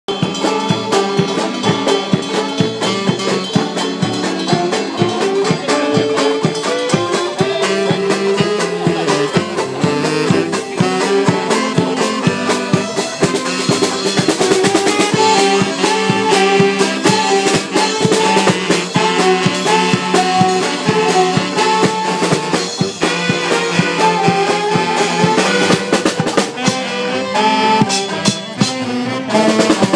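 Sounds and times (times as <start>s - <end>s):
saxophones: 0.1s - 29.9s
steady drum beat: 0.1s - 29.9s
string band playing: 0.1s - 29.9s
string bass: 0.1s - 29.9s.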